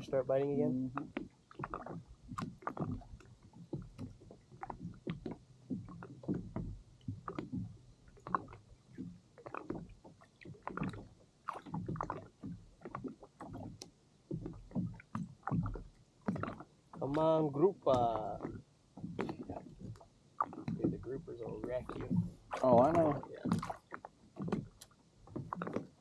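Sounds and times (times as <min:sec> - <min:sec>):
water slapping kayak hull: 0:00.0 - 0:26.0.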